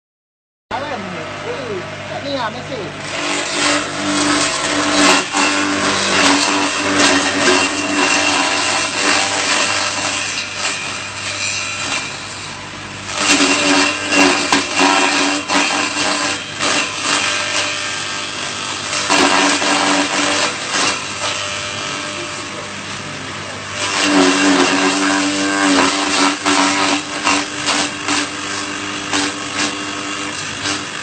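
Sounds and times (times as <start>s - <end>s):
electric motor humming: 0.7s - 31.0s.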